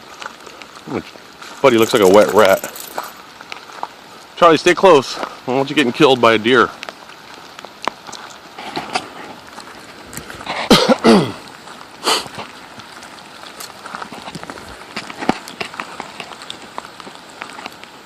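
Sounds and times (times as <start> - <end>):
footsteps crunching: 0.0 - 4.0, 6.6 - 17.8
rain pattering: 0.0 - 18.0.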